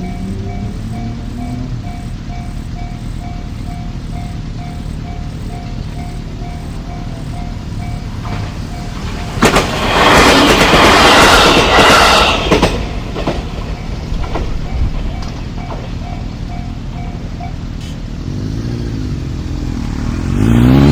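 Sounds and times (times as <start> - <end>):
level crossing alarm ringing: 0.0 - 18.2
wheels clacking over rail joints: 0.0 - 20.2
train passing: 0.0 - 20.9.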